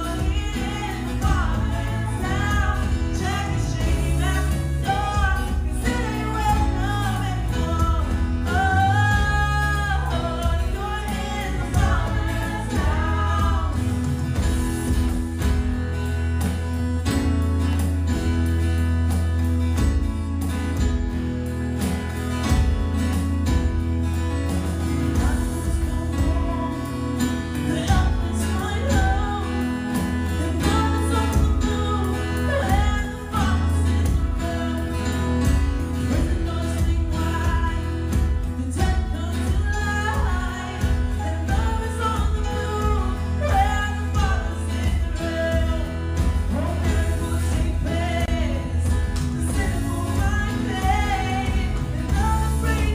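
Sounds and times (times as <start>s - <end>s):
worship song singing with band: 0.0s - 21.0s, 21.8s - 52.9s.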